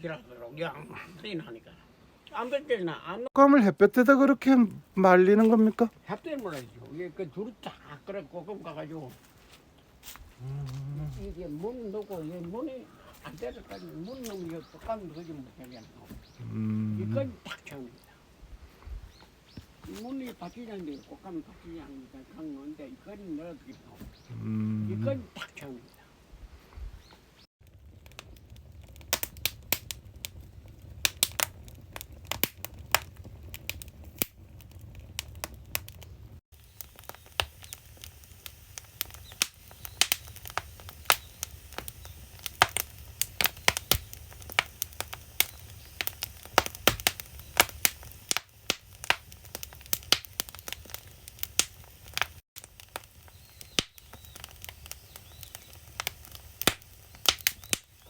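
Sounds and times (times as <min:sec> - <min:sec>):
firewood crackling and popping: 0:03.4 - 0:25.8, 0:27.0 - 0:58.0.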